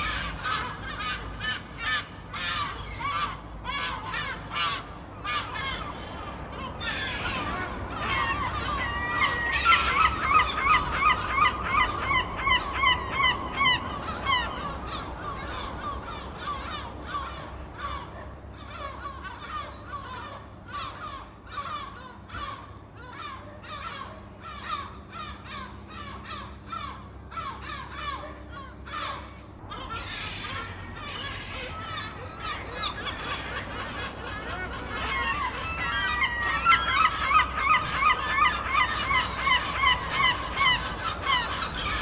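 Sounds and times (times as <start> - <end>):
seagulls squawking: 0.0 - 42.0.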